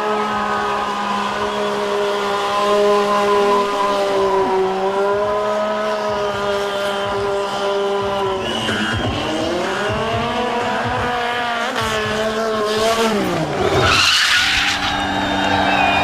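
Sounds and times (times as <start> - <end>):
motorcycle engine at high revs: 0.0 - 13.8.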